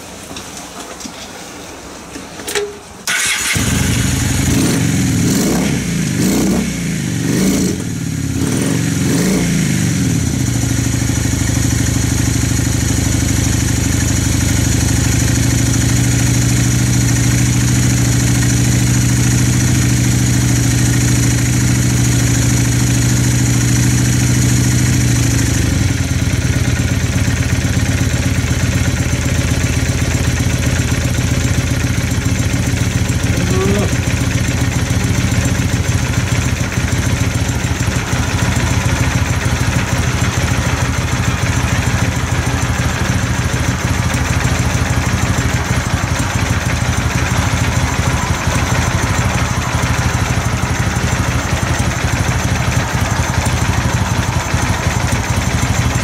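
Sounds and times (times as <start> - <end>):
motorcycle engine revving and idling: 3.1 - 56.0.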